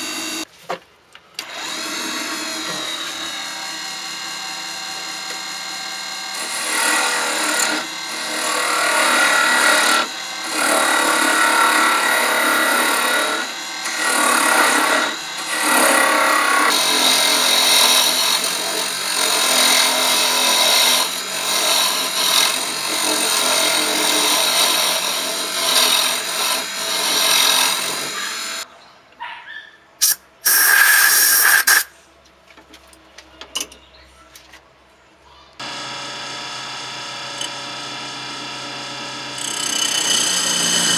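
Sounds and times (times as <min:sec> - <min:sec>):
wood lathe tool scraping wood: 0:00.0 - 0:00.5, 0:01.4 - 0:28.6, 0:35.6 - 0:40.9.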